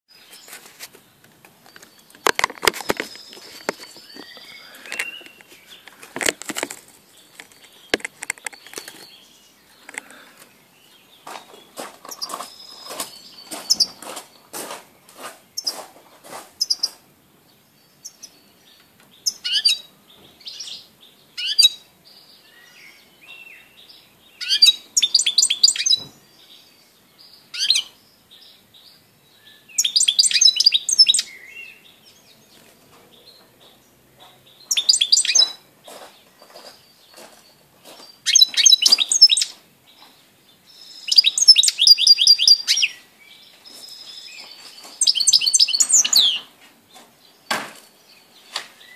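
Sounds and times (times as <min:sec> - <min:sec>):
bird tinkling twittering song: 0:01.6 - 0:15.8, 0:16.6 - 0:48.9.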